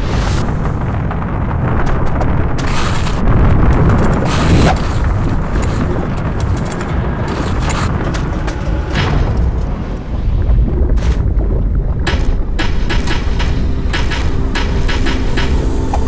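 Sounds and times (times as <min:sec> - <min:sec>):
deep continuous fire rumble: 0:00.0 - 0:16.0
explosion bursts: 0:00.0 - 0:16.0.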